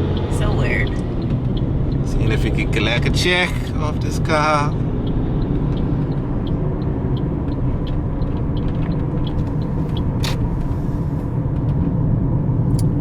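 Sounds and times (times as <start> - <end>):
road and engine rumble in car cabin: 0.0 - 13.0.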